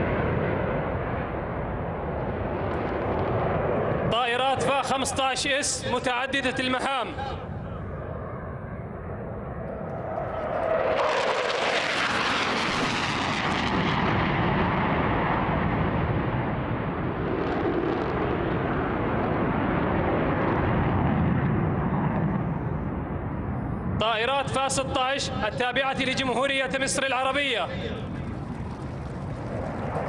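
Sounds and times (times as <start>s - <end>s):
fighter jets roaring past: 0.0s - 30.0s.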